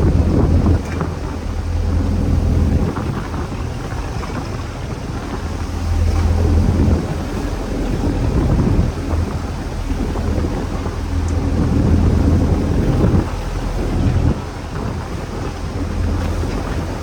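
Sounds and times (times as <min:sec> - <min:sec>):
low rumble of rough sea: 0:00.0 - 0:17.0
wind buffeting microphone: 0:00.0 - 0:17.0.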